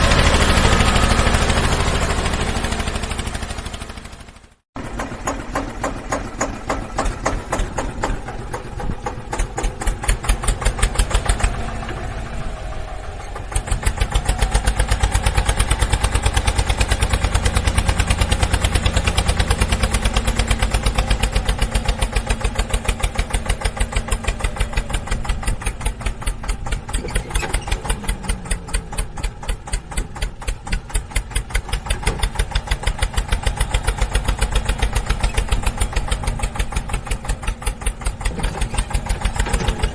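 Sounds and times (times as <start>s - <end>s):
engine chugging: 0.0s - 39.9s.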